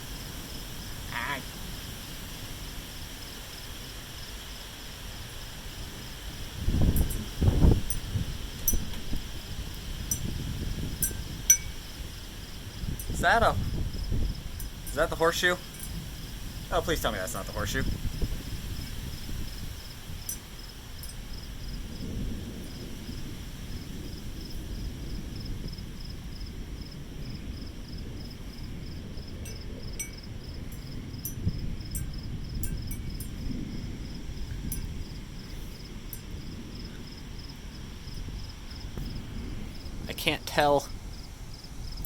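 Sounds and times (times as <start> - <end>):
crickets chirping: 0.0 - 42.0
gusty wind on microphone: 0.0 - 42.0.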